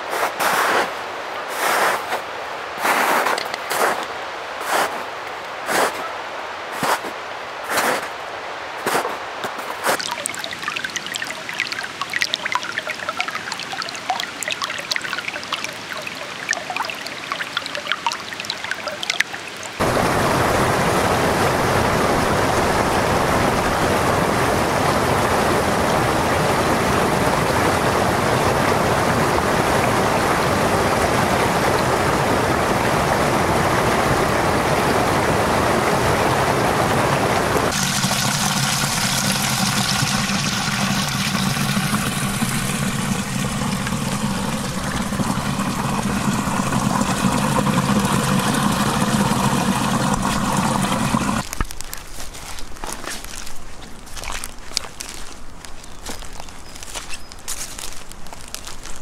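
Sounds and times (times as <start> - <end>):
brook babbling over stones: 1.3 - 59.0
stream rushing over weir: 2.4 - 51.6.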